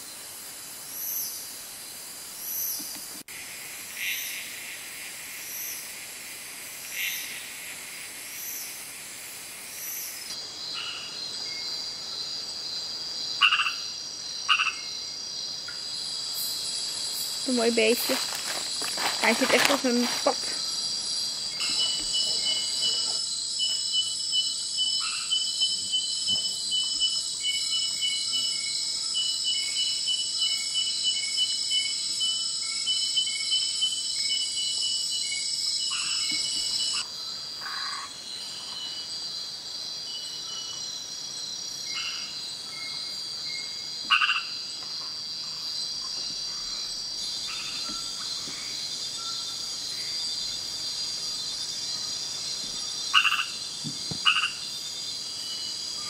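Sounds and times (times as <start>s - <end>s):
high-pitched insect drone: 0.0s - 56.0s
frogs calling: 2.4s - 6.0s, 6.8s - 8.8s, 13.3s - 39.4s, 40.2s - 56.0s.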